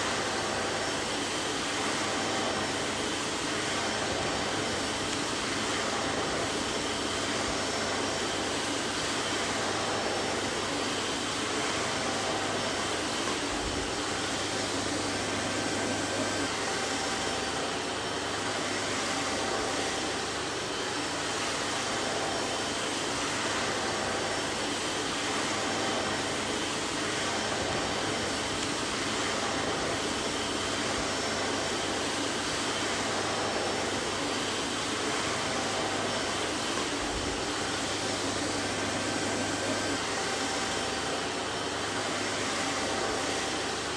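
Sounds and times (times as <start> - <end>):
vacuum cleaner running: 0.0 - 43.9.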